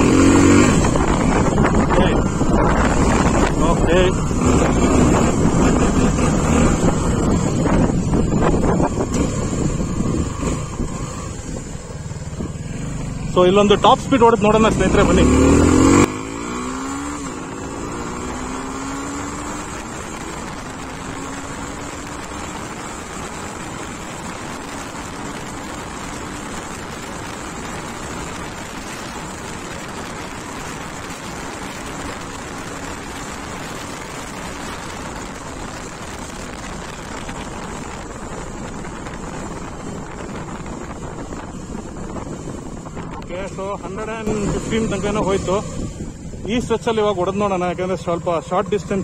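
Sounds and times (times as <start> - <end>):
wind rush: 0.0 - 48.2
motorcycle engine accelerating: 0.0 - 49.0.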